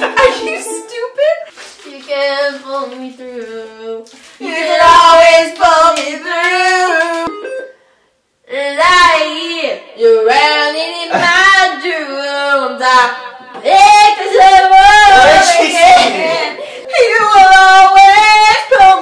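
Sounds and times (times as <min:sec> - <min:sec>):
girls singing pop tune: 0:01.9 - 0:07.3, 0:08.5 - 0:19.0.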